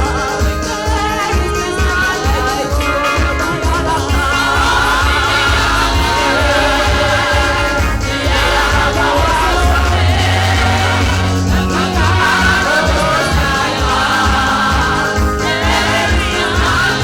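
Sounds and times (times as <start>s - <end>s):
band with heavy bass: 0.0s - 17.0s
people singing: 0.0s - 17.0s.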